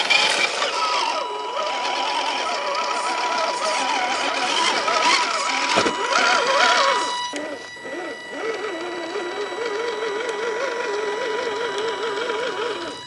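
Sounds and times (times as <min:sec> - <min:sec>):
tires on dirt and rock: 0:00.0 - 0:12.9
electric motor whining: 0:00.0 - 0:13.0.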